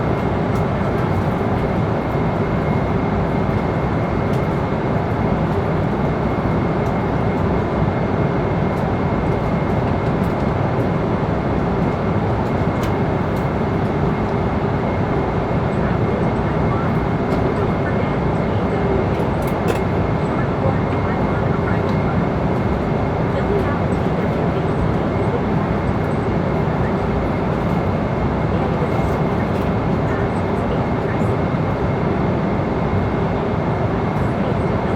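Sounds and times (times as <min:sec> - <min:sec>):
engine and airflow rush: 0:00.0 - 0:34.9.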